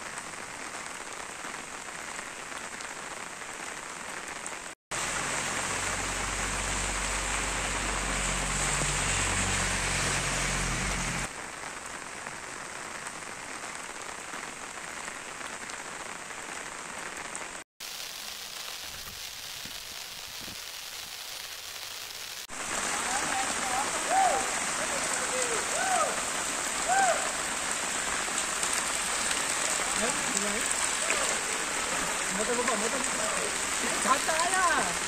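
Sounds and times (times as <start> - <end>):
heavy rain on roofs and streets: 0.0 - 35.0.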